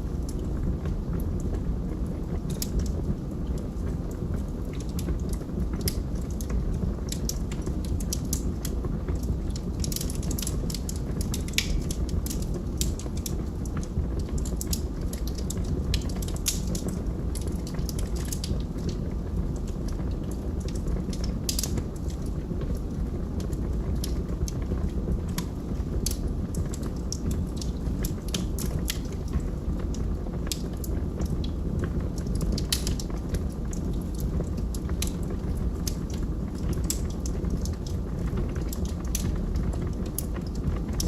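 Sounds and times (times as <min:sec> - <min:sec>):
low rumble of flames: 0:00.0 - 0:41.0
wood crackling and popping: 0:00.0 - 0:41.0.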